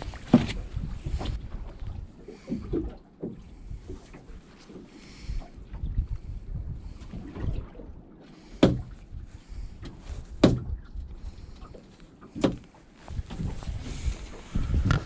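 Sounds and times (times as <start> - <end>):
waves knocking against boat hull: 0.0 - 7.8, 8.4 - 9.1, 9.7 - 15.0
low rumble of wind and water: 0.0 - 15.0.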